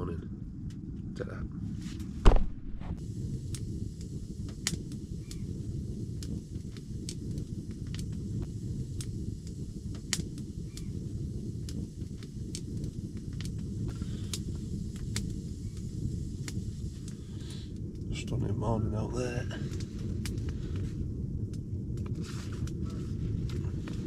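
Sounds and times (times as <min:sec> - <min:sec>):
steady low rumble: 0:00.0 - 0:24.0
wood fire crackling and popping: 0:00.0 - 0:24.0.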